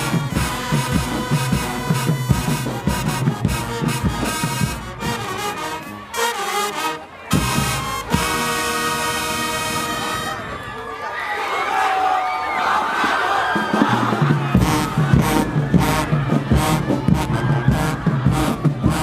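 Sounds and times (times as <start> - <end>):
marching band playing: 0.0 - 10.8, 13.0 - 19.0.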